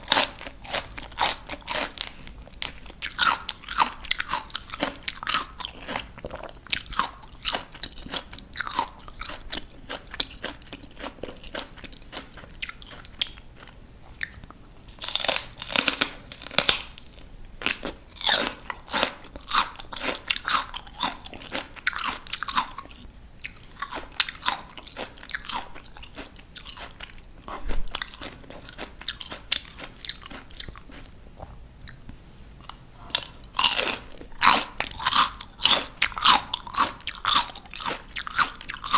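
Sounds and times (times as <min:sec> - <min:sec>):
crunchy vegetables being chewed: 0:00.0 - 0:38.9.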